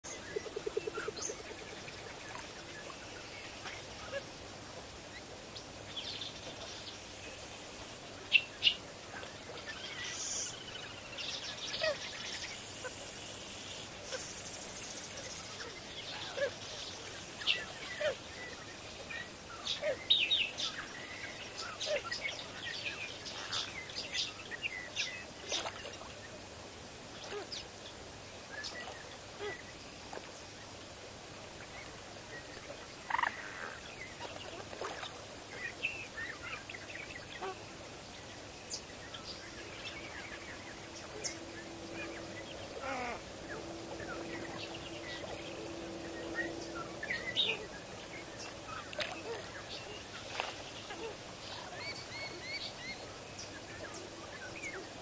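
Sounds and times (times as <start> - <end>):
waterbirds calling: 0.0 - 26.4, 31.5 - 55.0
faint steady hum: 0.0 - 55.0
outdoor background noise: 0.0 - 55.0.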